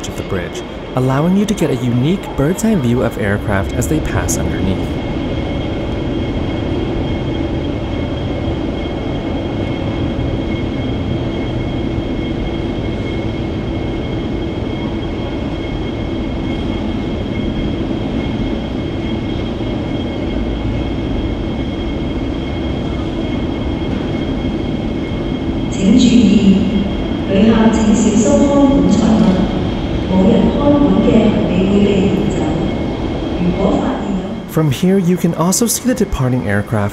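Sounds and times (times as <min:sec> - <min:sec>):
muffled jet engine rumble and whine: 0:00.0 - 0:36.9.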